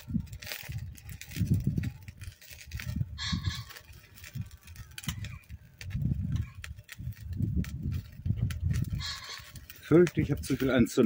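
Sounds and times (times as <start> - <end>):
fire crackling: 0.0 - 11.0
wind buffeting microphone: 0.0 - 11.0.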